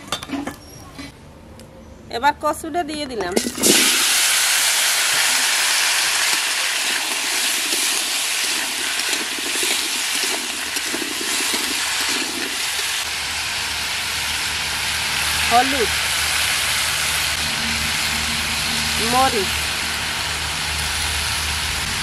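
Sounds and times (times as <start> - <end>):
taro sizzling in hot oil: 3.5 - 22.0.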